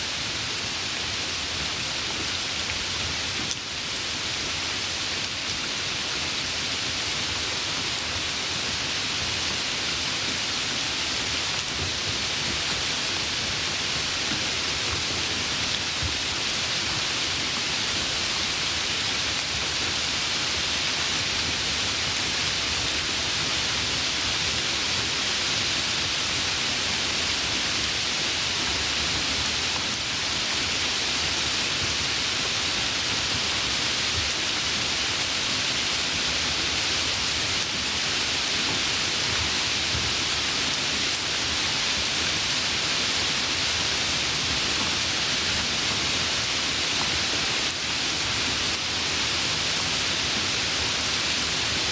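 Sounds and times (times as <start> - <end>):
dense rainfall: 0.0 - 51.9.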